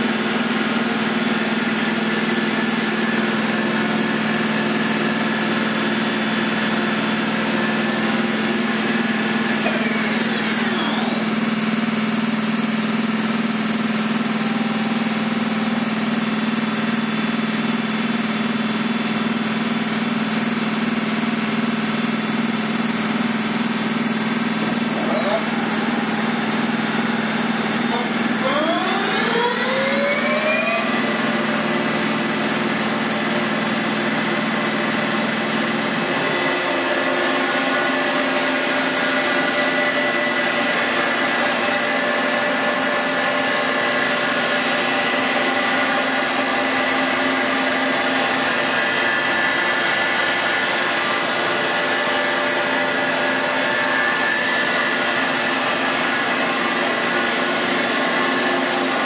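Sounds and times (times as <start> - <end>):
lathe whining: 0.0 - 59.0.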